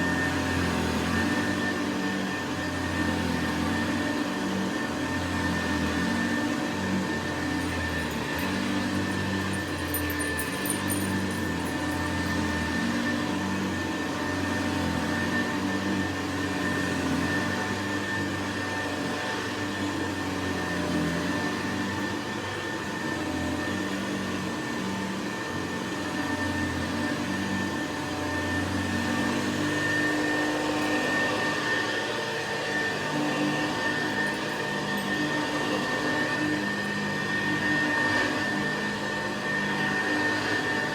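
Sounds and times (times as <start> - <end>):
upright vacuum cleaner running: 0.0 - 40.9.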